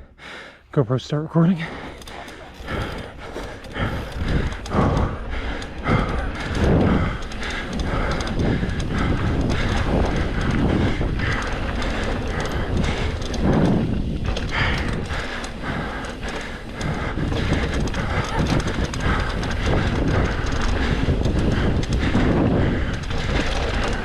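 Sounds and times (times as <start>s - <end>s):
tyres rumbling: 0.0s - 24.0s
bike frame and chain rattling: 1.7s - 24.0s.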